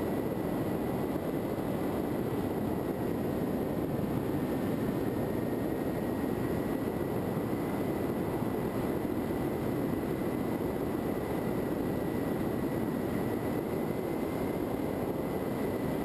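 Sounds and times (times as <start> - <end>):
faint high whine: 0.0 - 16.0
model plane propeller noise: 0.0 - 16.0.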